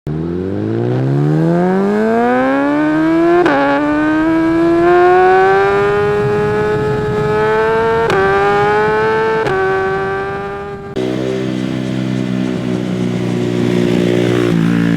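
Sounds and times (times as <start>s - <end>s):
motorcycle engine accelerating: 0.1s - 14.9s.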